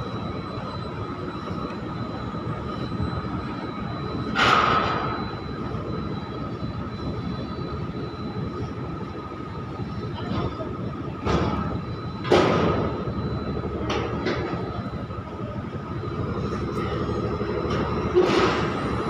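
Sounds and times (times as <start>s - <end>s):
cargo machinery drone: 0.0s - 19.0s
steady machine whine: 0.0s - 19.0s.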